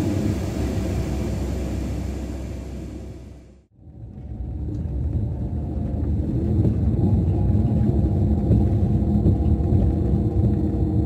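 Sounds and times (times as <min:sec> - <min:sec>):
diesel bus engine drone: 0:00.0 - 0:11.0.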